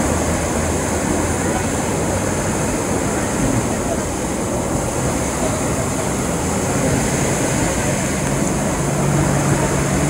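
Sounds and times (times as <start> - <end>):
floodwater rushing: 0.0 - 10.0
truck engine hum: 0.0 - 10.0.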